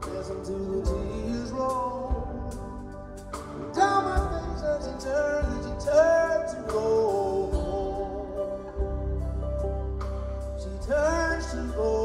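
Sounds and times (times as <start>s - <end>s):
bass drum hitting: 0.0s - 12.0s
live band music: 0.0s - 12.0s.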